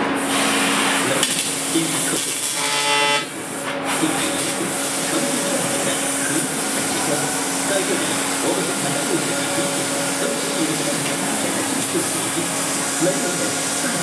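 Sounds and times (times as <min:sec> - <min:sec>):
laser cutter gas hiss: 0:00.0 - 0:14.0
low machine hum: 0:00.0 - 0:14.0.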